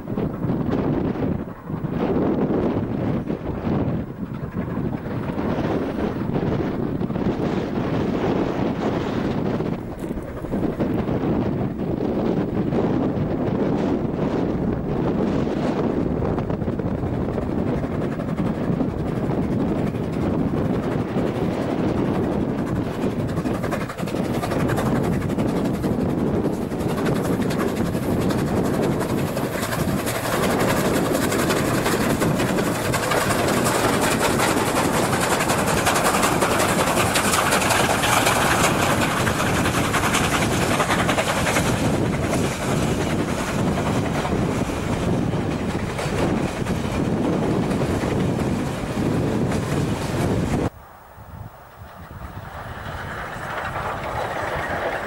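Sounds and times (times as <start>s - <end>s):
steam locomotives working hard: 0.0s - 55.0s.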